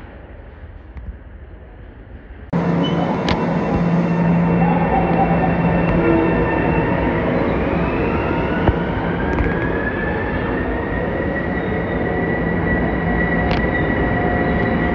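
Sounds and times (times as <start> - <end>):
train wheels rumbling on rails: 0.0 - 14.9
traction motor whine: 2.6 - 14.9.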